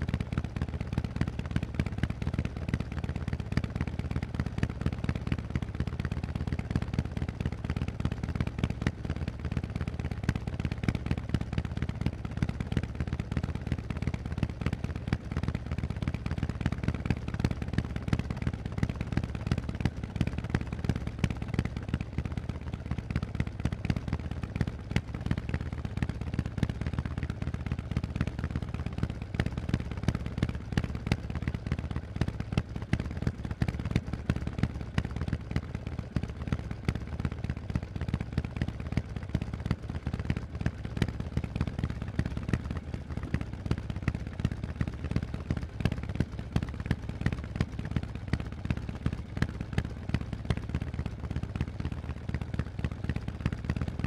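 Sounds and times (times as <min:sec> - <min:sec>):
motorcycle engine exhaust pulses: 0:00.0 - 0:54.0.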